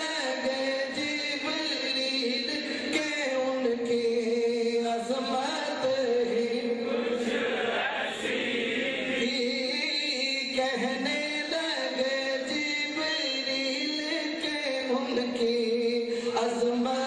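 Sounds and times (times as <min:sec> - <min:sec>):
man singing devotional song: 0:00.0 - 0:07.3, 0:09.0 - 0:17.0.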